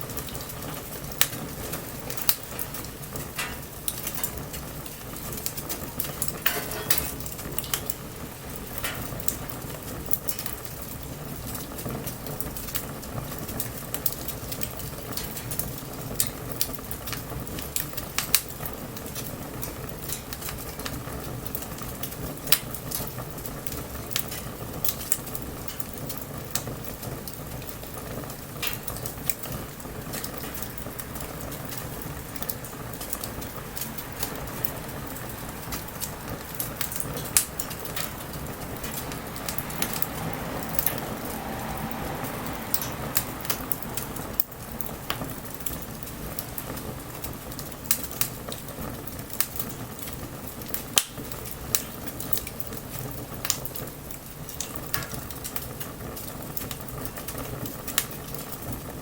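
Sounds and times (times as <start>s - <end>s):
fire hissing: 0.0s - 59.0s
wood fire crackling and popping: 0.0s - 59.0s.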